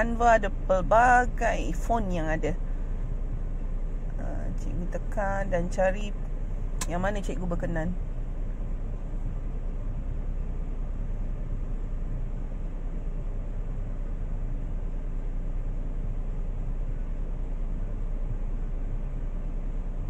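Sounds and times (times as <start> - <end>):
low background rumble and hiss: 0.0 - 20.0
low hum: 0.0 - 20.0.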